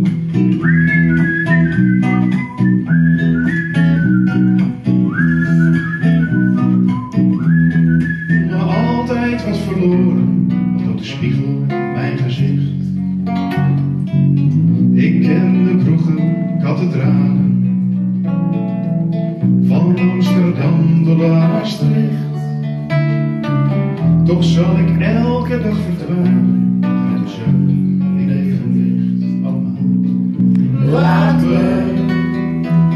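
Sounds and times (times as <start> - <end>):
acoustic guitars: 0.0 - 32.9
electric bass guitar: 0.0 - 32.9.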